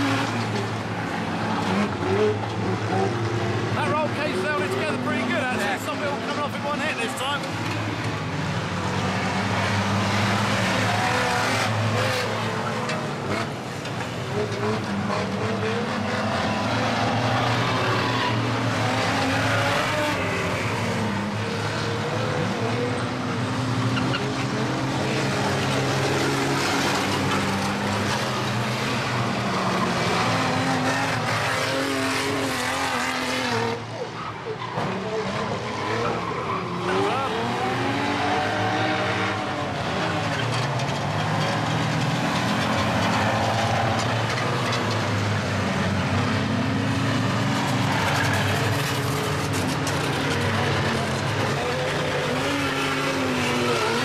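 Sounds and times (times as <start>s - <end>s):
van engines revving: 0.0s - 34.0s, 34.8s - 54.0s.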